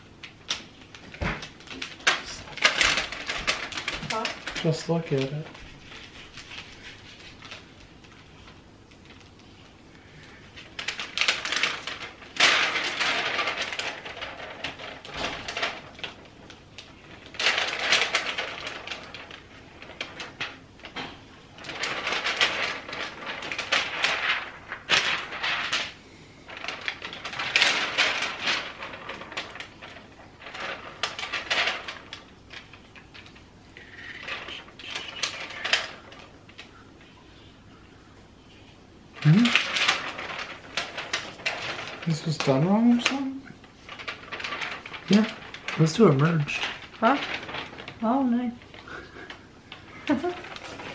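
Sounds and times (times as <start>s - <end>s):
plastic and paper crinkling: 0.0s - 50.9s.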